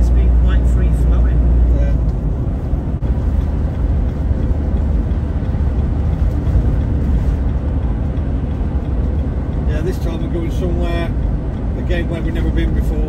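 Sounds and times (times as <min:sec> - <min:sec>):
road and engine rumble in cab: 0:00.0 - 0:13.0.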